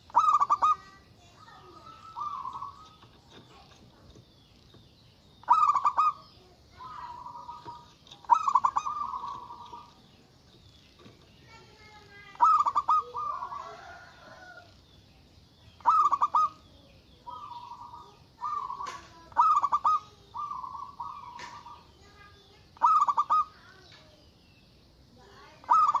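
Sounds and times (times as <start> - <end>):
dove cooing: 0.0 - 4.2, 5.4 - 10.4, 11.5 - 14.8, 15.8 - 23.9, 25.5 - 26.0.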